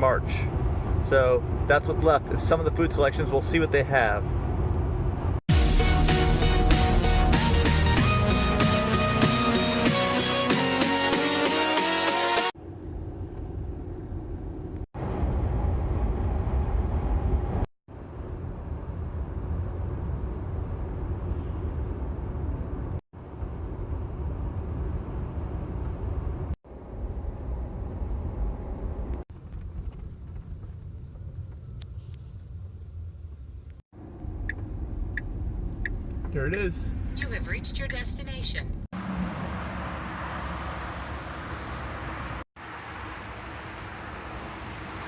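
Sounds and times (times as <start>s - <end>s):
road and tyre rumble in car: 0.0s - 5.4s, 12.6s - 45.0s.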